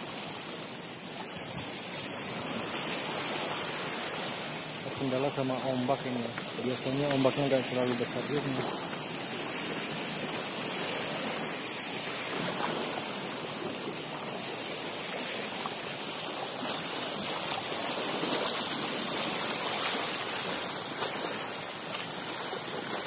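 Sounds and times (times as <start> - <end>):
small waves splashing on shore: 0.0 - 23.0.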